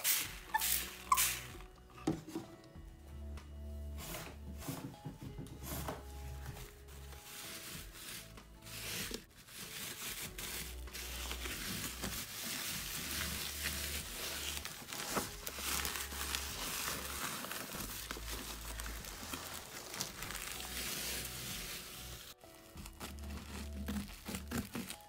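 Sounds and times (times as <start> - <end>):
bubble wrap crinkling: 0.0 - 1.8, 5.6 - 25.0.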